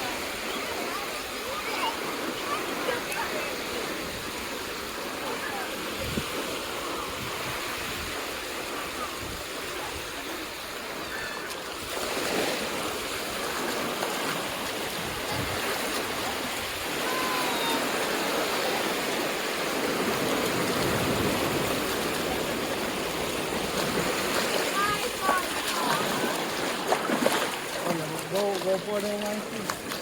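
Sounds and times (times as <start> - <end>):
sea surf washing onto beach: 0.0 - 30.0.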